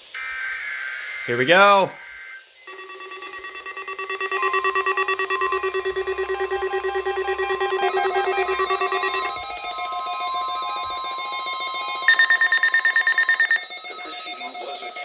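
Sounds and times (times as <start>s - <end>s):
beeping alert sirens: 0.2s - 15.0s
steady high alarm tone: 0.2s - 15.0s
shrill fast beeping: 1.2s - 15.0s.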